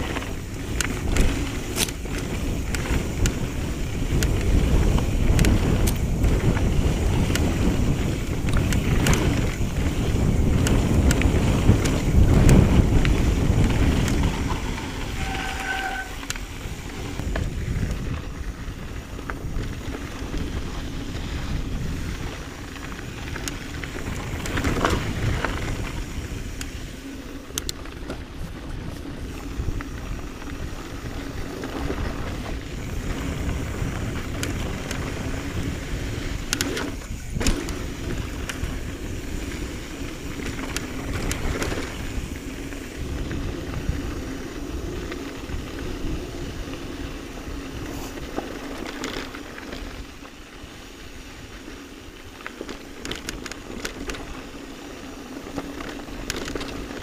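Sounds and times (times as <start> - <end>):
bike knocks and clicks: 0.0 - 15.2, 16.2 - 46.2, 52.3 - 54.6, 55.4 - 57.0
tyres rolling over dirt: 0.0 - 57.0
wind buffeting microphone: 0.0 - 57.0.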